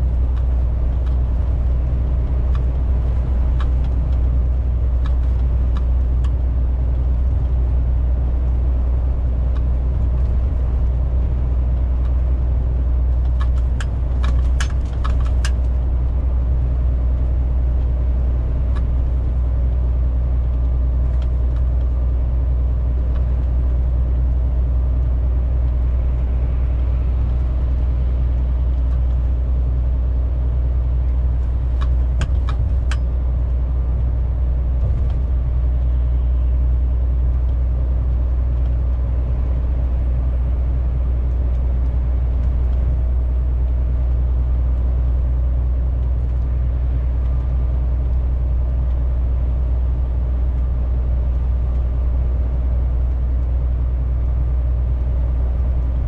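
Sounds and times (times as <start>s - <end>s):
truck engine and road noise drone: 0.0s - 56.0s.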